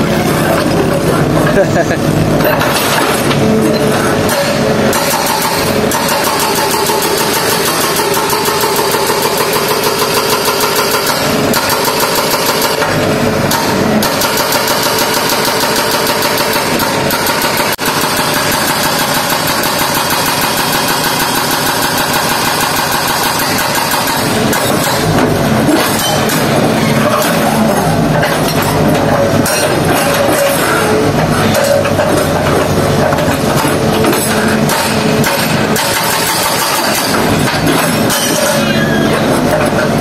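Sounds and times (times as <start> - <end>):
heavy machine engine running: 0.0 - 40.0.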